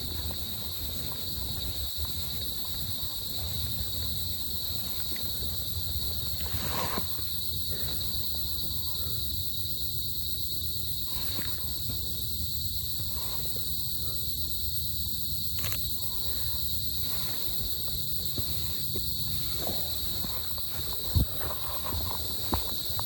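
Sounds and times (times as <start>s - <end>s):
shrill insect chorus: 0.0s - 23.0s.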